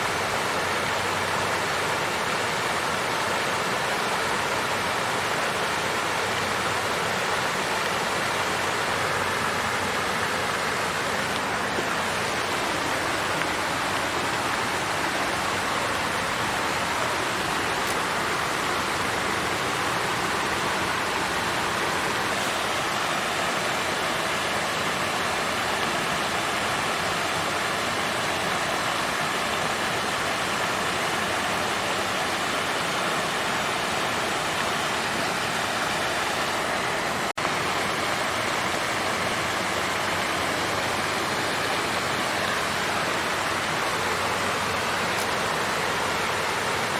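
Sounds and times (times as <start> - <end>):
water fountain splashing: 0.0 - 46.9.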